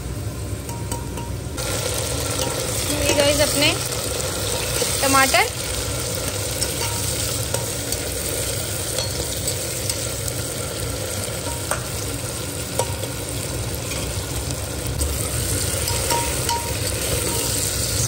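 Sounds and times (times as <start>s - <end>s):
vegetables sizzling in oil: 1.4s - 18.0s.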